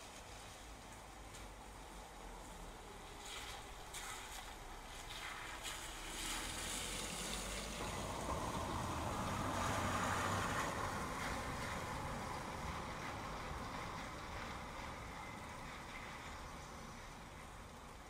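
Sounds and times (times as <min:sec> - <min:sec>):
car tyres hissing on wet road: 0:00.0 - 0:18.0
steady rain: 0:00.0 - 0:18.0.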